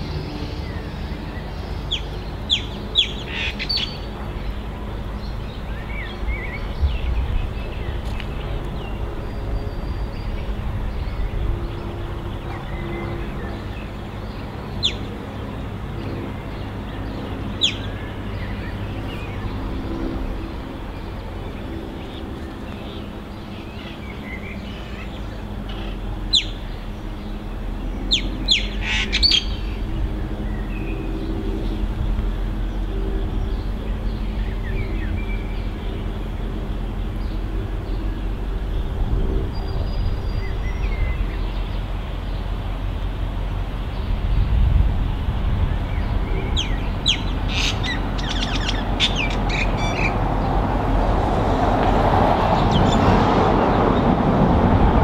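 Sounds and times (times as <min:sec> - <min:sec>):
birds chirping: 0:00.0 - 0:55.0
diesel locomotive drone: 0:00.0 - 0:55.0.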